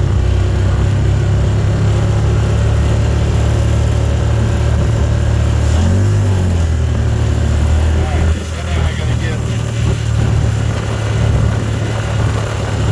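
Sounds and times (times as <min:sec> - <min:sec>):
car engine hum: 0:00.0 - 0:12.9
road noise: 0:00.0 - 0:12.9.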